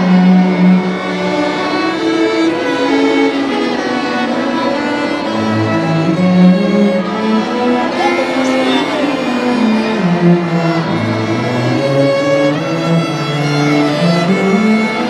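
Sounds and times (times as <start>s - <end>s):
string orchestra playing: 0.0s - 15.0s.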